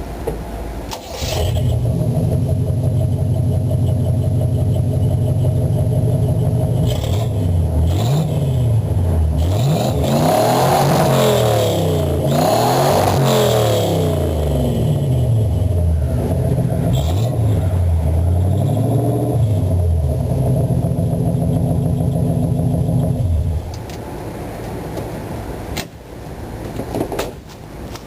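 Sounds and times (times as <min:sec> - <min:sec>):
car engine revving: 0:00.9 - 0:23.8.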